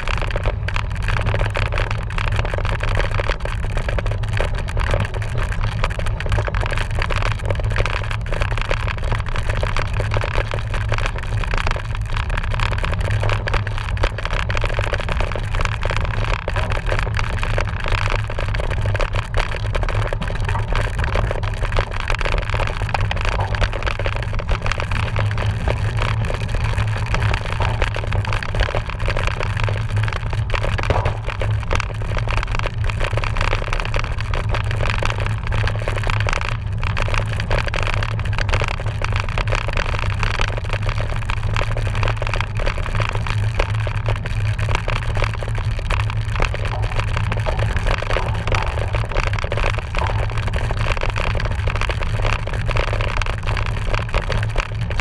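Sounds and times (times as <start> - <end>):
bike rattling and knocking: 0.0 - 55.0
bike tyres rolling on dirt: 0.0 - 55.0.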